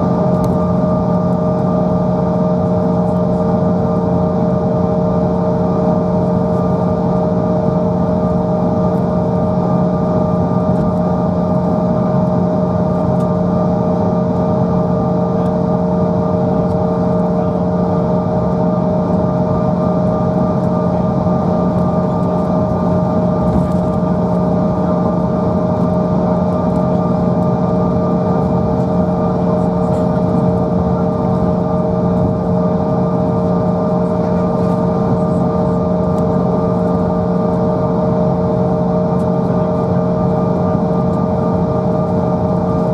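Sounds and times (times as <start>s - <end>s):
jet engine cabin hum: 0.0s - 42.9s.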